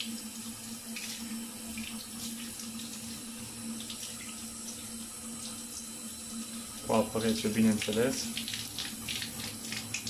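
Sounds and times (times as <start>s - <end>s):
shower water splashing into bathtub: 0.0s - 10.0s.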